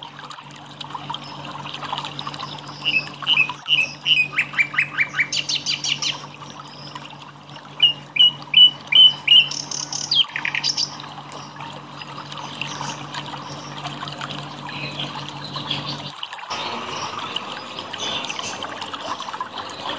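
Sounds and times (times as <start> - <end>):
steady low hum: 0.0 - 19.9
trickling water: 0.0 - 19.9
songbirds chirping: 1.0 - 19.9.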